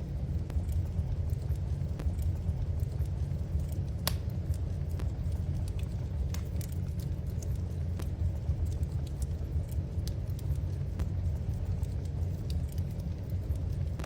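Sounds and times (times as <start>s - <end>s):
wood fire crackling and popping: 0.1s - 14.0s.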